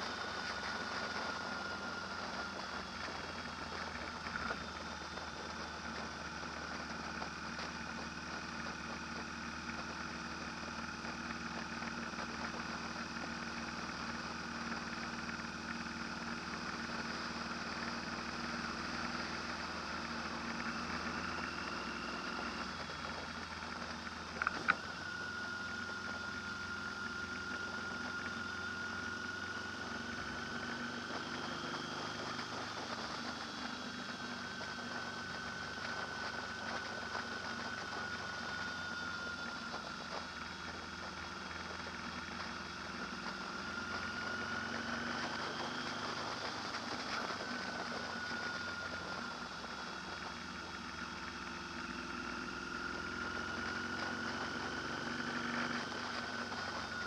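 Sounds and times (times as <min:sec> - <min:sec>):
steady mechanical drone: 0:00.0 - 0:57.0.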